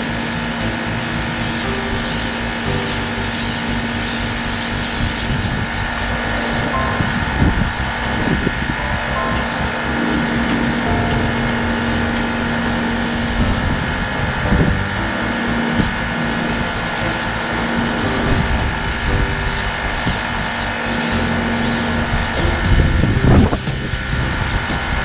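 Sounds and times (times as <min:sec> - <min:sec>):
pressure washer jet hissing on concrete: 0:00.0 - 0:14.8, 0:15.7 - 0:18.8, 0:20.0 - 0:25.0
pump hum: 0:00.0 - 0:25.0.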